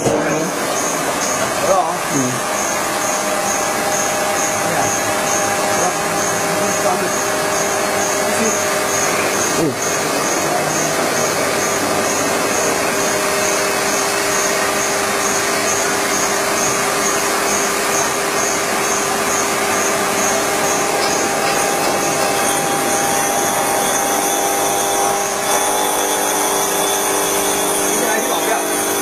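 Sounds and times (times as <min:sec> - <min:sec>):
electric motor hum: 0:00.0 - 0:29.0.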